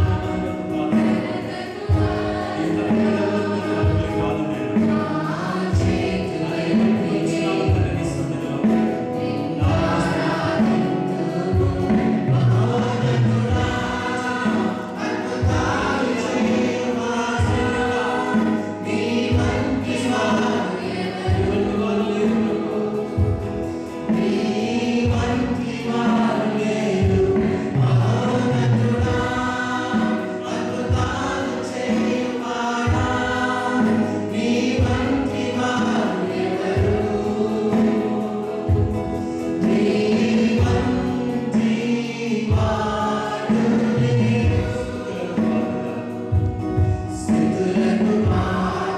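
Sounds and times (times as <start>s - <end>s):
band accompaniment with steady beat: 0.0s - 48.9s
group of voices singing: 0.0s - 48.9s.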